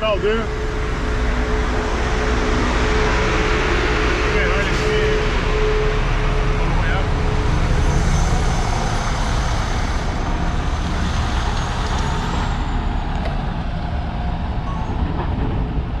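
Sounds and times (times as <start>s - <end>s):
bus engine driving away: 0.0s - 16.0s.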